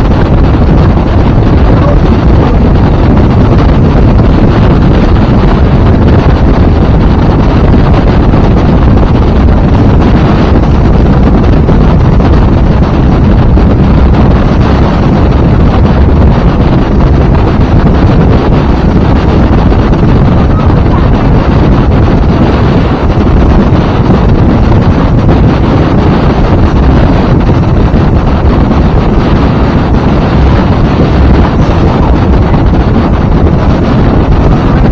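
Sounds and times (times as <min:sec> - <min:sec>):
boat engine: 0:00.0 - 0:34.9
wind noise on microphone: 0:00.0 - 0:34.9.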